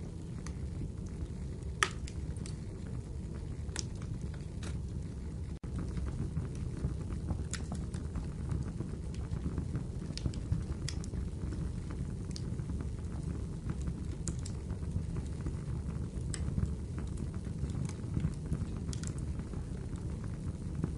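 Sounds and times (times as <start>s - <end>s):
burning wood crackling: 0.0s - 20.9s
fire flames rumbling: 0.0s - 20.9s.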